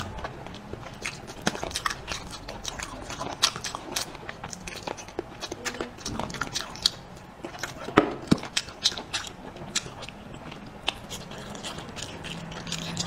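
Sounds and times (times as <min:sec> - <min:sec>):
person chewing with wet mouth clicks: 0:00.0 - 0:13.0.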